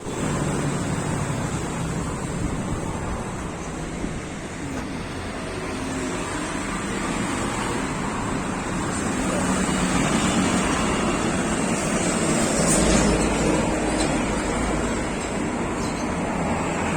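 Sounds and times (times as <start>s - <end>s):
vehicle engine and road noise: 0.0s - 16.9s.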